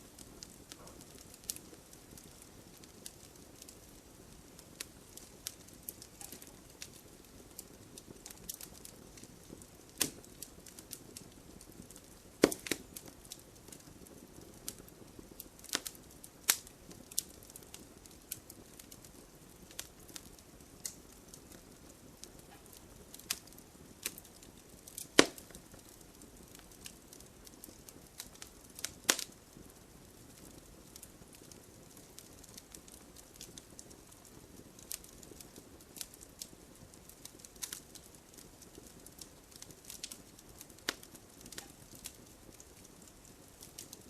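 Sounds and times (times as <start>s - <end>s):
low rush of flames: 0.0s - 44.0s
wood fire crackling: 0.0s - 44.0s.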